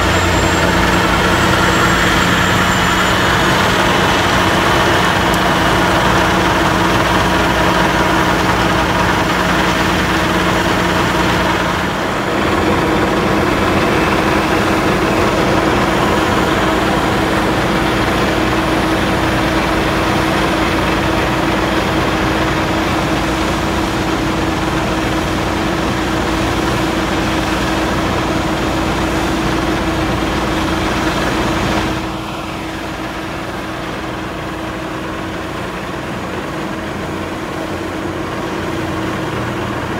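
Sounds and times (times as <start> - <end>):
snow-clearing machinery engines: 0.0 - 39.9.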